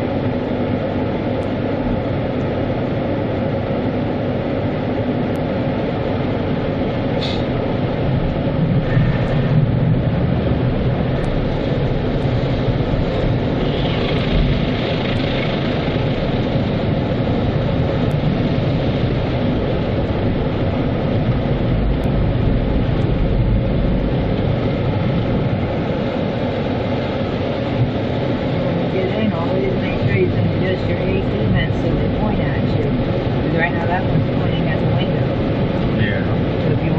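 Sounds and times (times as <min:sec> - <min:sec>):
car wash machinery rumbling: 0:00.0 - 0:36.9.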